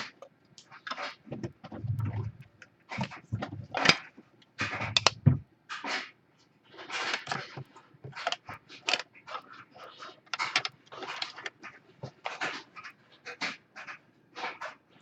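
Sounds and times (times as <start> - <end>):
cards rustling and scraping: 2.2 - 14.8.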